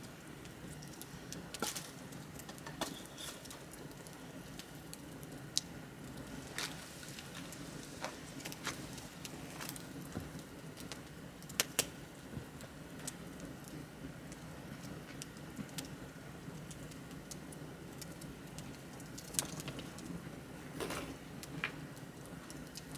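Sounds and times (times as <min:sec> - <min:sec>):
burning wood popping: 0:00.0 - 0:22.9
fire burning: 0:00.0 - 0:22.9.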